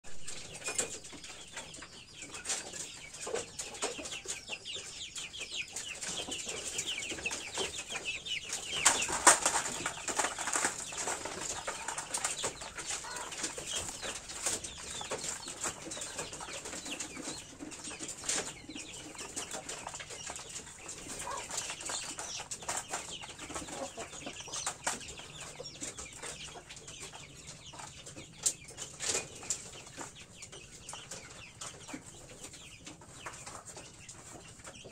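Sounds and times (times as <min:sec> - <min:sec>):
chickens clucking: 0:00.1 - 0:34.9
chicks peeping: 0:00.1 - 0:34.9.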